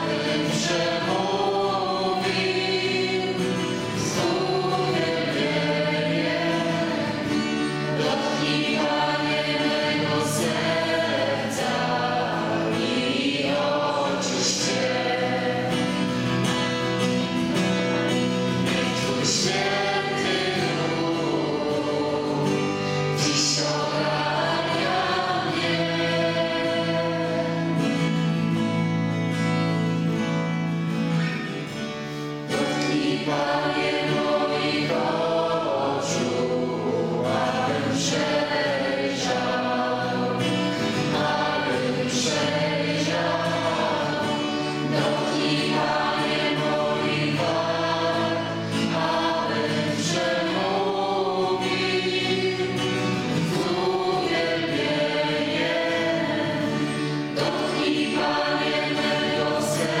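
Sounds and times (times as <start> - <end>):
voices singing a worship song: 0.0 - 30.1, 30.9 - 60.0
strummed acoustic guitar: 0.0 - 60.0.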